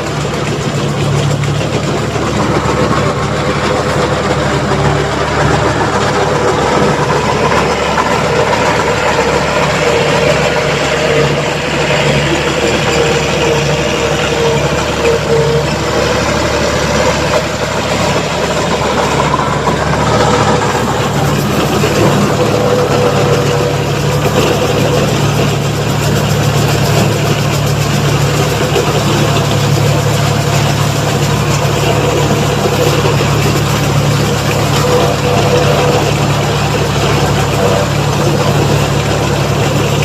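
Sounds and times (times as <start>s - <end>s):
tractor engine and baler running: 0.0s - 40.0s.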